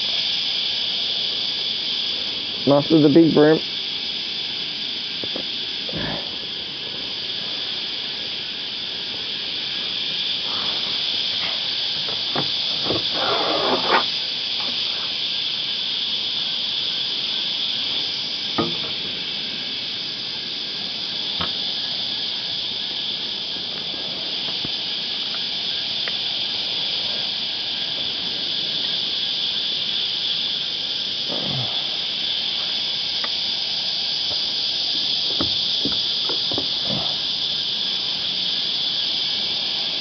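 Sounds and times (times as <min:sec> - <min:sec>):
cicadas droning: 0:00.0 - 0:40.0.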